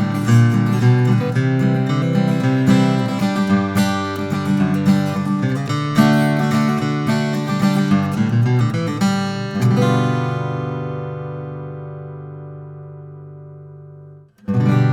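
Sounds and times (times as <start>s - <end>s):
acoustic guitar playing: 0.0s - 14.9s.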